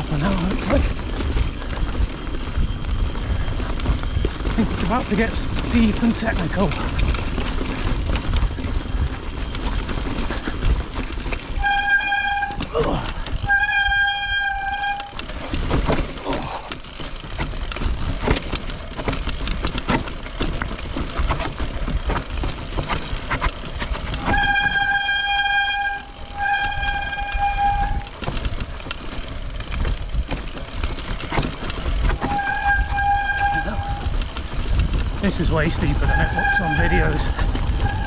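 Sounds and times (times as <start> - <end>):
bike clattering over stone path: 0.0 - 38.0
bike disc brakes squealing: 0.0 - 38.0
wind rumbling on microphone: 0.0 - 38.0.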